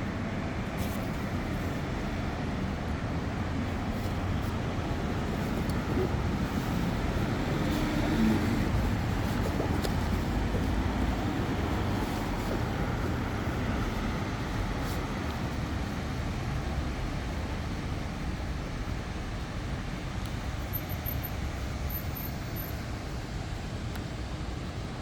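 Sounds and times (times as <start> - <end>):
city street traffic rumble: 0.0 - 25.0.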